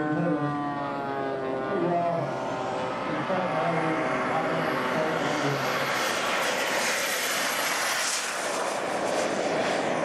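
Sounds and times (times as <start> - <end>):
model jet turbine engine: 0.0 - 10.0.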